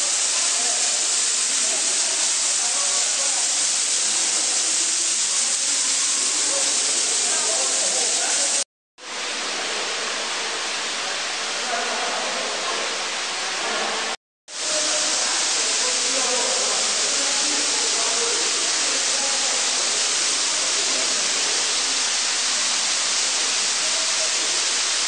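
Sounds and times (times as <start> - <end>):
underground waterfall rushing: 0.0 - 25.0.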